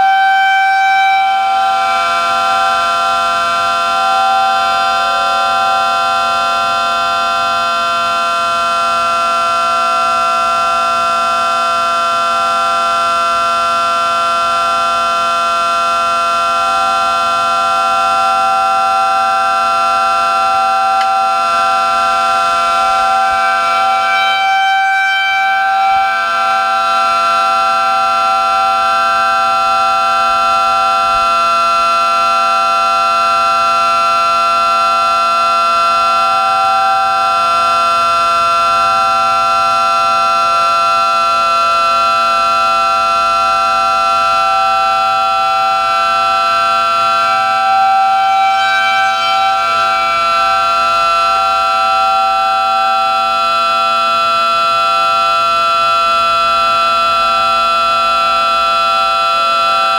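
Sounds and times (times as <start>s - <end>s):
miniature siren two-tone chord: 0.0s - 59.9s.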